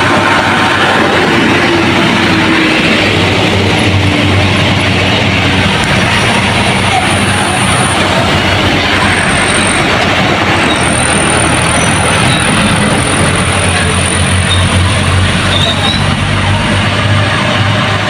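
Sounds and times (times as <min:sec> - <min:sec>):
heavy vehicle engine rumbling: 0:00.0 - 0:18.0.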